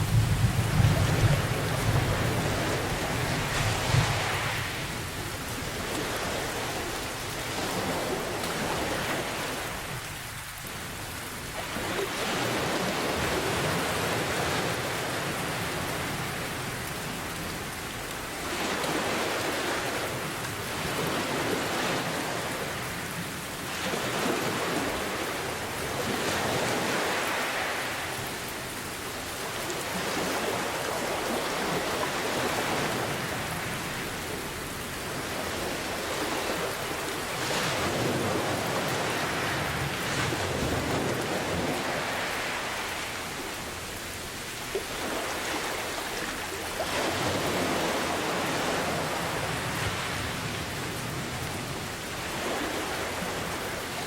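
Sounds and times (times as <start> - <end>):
ocean waves surging: 0.0 - 54.0.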